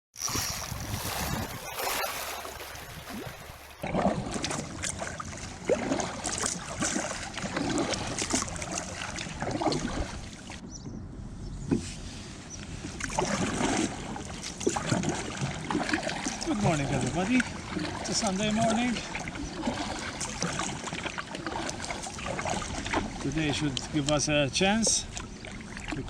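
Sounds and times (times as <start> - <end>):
water splashing against a kayak: 0.2 - 10.6, 11.7 - 26.0.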